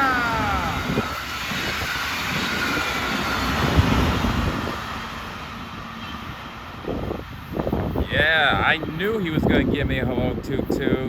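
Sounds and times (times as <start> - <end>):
train wheels rumbling on rails: 0.0 - 11.0
wind noise on microphone: 0.0 - 11.0.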